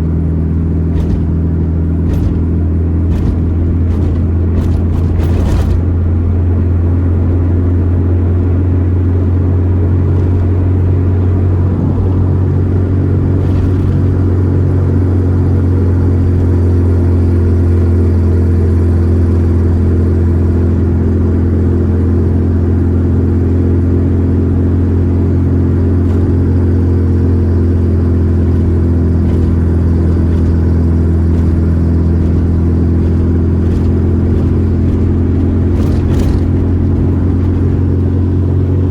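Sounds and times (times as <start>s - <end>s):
car engine droning while driving: 0.0s - 38.9s.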